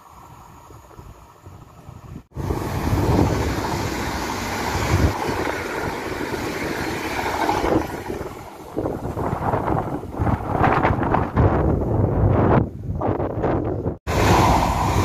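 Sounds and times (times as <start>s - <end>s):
train passing at speed: 0.0s - 11.9s, 14.0s - 15.0s
wind buffeting microphone: 0.0s - 15.0s.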